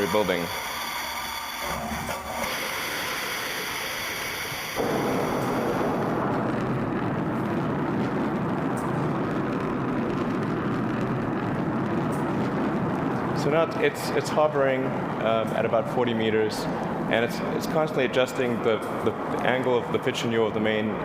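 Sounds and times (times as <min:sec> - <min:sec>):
rocket engine firing: 0:00.0 - 0:21.0.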